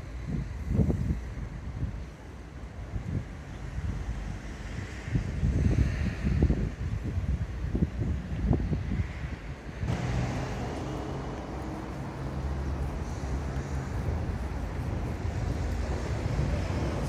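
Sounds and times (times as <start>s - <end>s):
wind on microphone: 0.0s - 17.0s
vehicle engine hum: 2.0s - 17.0s.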